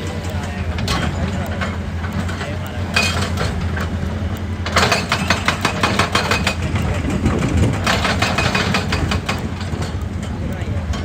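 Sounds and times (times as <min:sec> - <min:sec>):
excavator diesel engine running: 0:00.0 - 0:11.0
hydraulic breaker hammering rock: 0:00.0 - 0:11.0.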